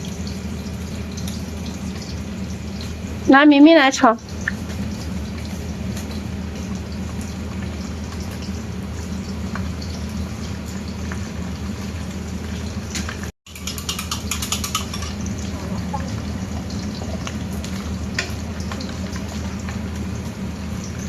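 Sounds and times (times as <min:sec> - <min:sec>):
range hood fan running: 0:00.0 - 0:21.0.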